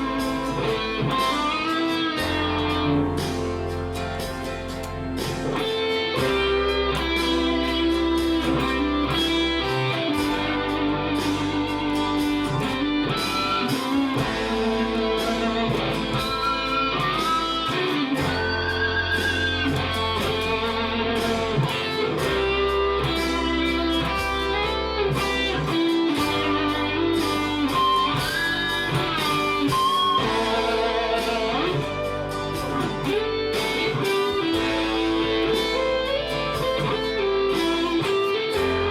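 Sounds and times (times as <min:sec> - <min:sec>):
backing jam track: 0:00.0 - 0:38.9
electric guitar lead: 0:00.0 - 0:38.9.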